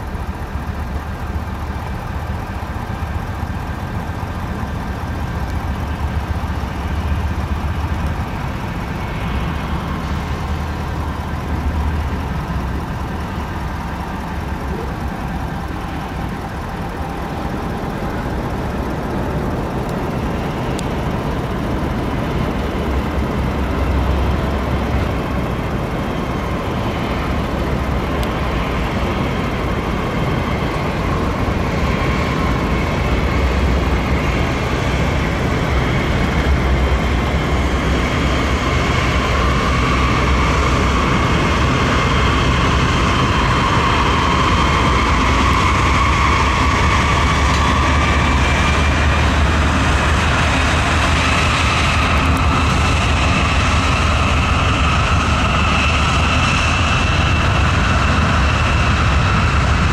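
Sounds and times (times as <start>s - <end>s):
deep locomotive engine rumble: 0.0s - 59.9s
whining tones: 0.0s - 59.9s.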